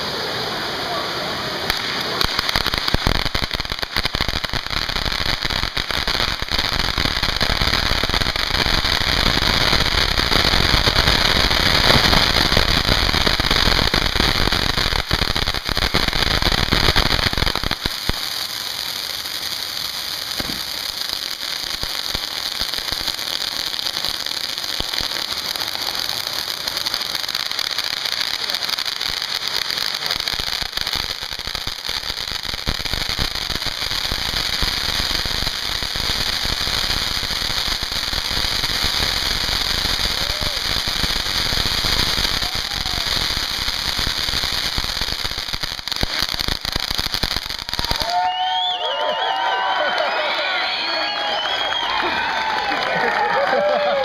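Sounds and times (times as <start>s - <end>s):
fireworks fountains hissing: 0.0s - 54.0s.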